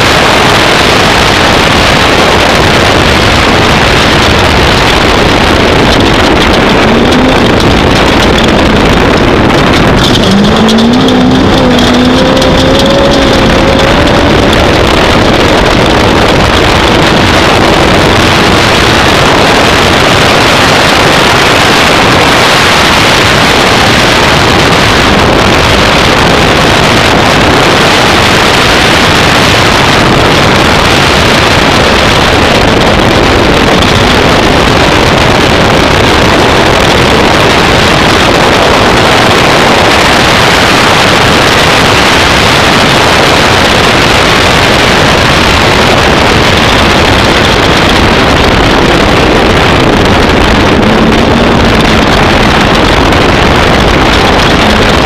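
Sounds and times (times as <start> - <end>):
engine and wind rush: 0.0 - 55.0.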